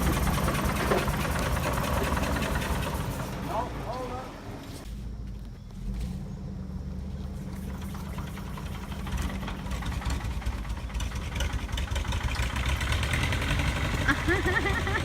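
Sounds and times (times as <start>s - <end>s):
old tractor engine running: 0.0s - 4.3s, 7.2s - 15.0s.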